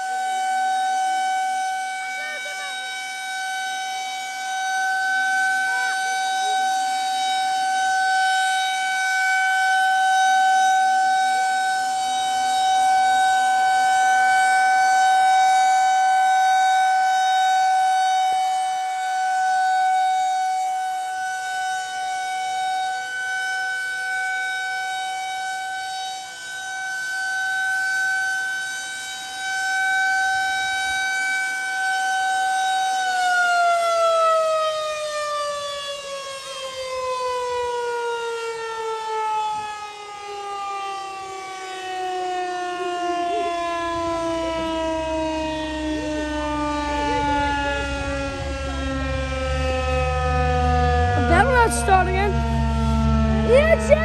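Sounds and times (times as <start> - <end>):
tornado warning siren: 0.0 - 54.0.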